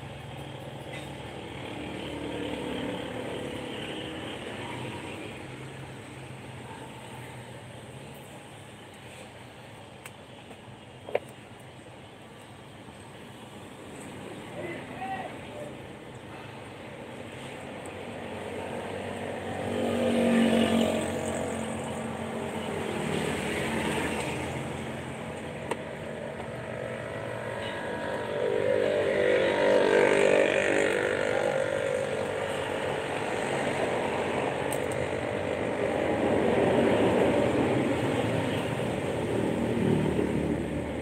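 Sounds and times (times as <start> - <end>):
vehicles passing by: 0.0 - 41.0.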